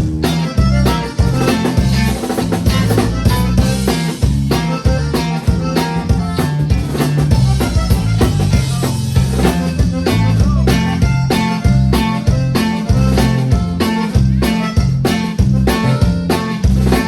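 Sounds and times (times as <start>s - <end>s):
bass line: 0.0s - 17.0s
live band playing: 0.0s - 17.0s
snare and bass drum hits: 0.0s - 17.0s.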